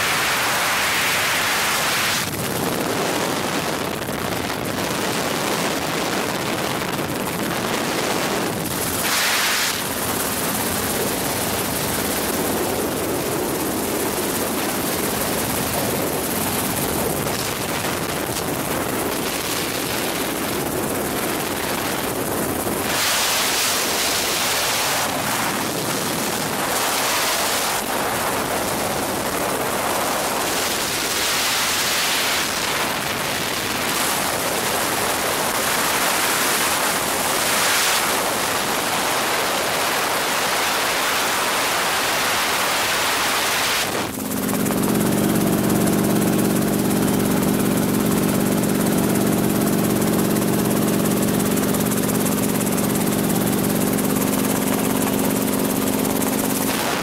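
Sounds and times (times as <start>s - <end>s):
helicopter engine and rotor drone: 0.0s - 57.0s
wind and airflow noise: 0.0s - 57.0s.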